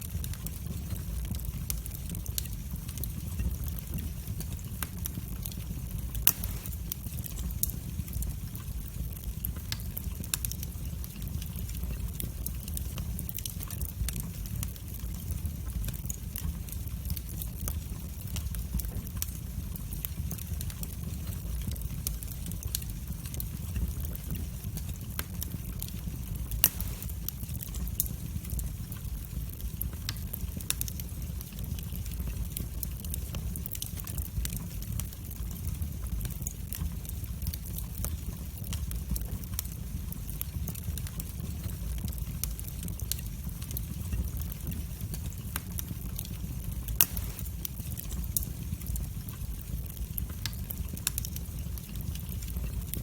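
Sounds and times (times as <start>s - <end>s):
fire crackling: 0.0s - 53.0s
loud fire pops: 0.0s - 53.0s
low rumble of flames: 0.0s - 53.0s.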